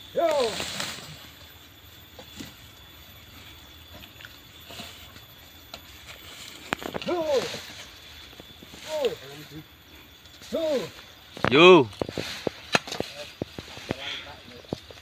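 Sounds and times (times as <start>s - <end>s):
rustles in grass: 0.0s - 15.0s.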